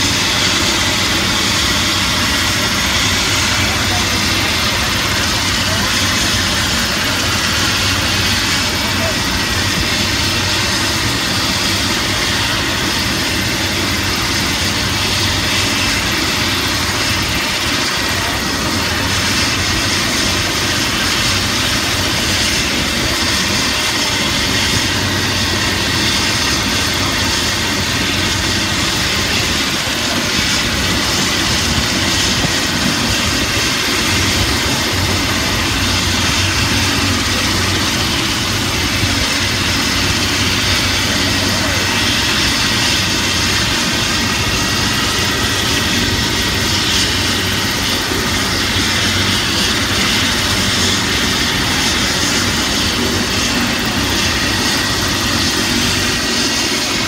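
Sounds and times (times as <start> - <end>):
helicopter turbine engine idling: 0.0 - 57.0.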